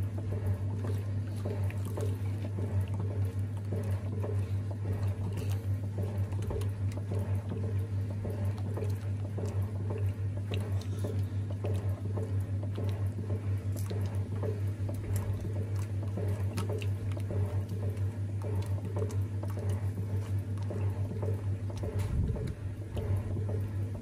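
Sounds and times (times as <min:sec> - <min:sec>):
washing machine sloshing water: 0:00.0 - 0:24.0.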